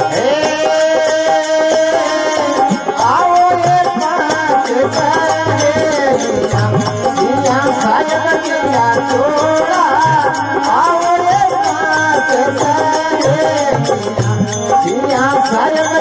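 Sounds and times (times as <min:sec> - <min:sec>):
hand percussion beat: 0:00.0 - 0:16.0
person singing ornamented melody: 0:00.0 - 0:16.0.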